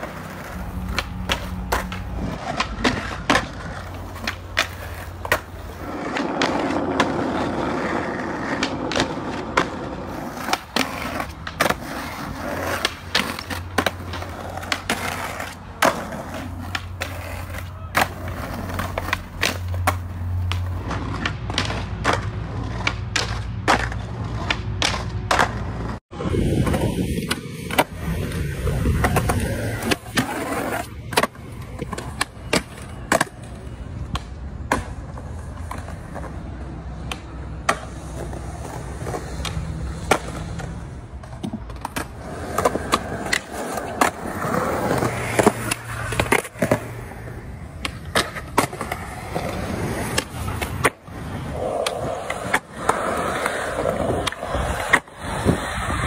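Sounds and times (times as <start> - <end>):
skateboard pops: 0.0 - 7.5, 8.4 - 56.0
skateboard wheels rolling on stone: 0.0 - 56.0.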